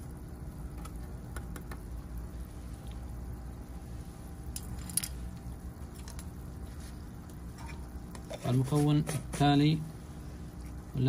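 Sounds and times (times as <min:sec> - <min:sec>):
air pump bubbling in water: 0:00.0 - 0:11.0.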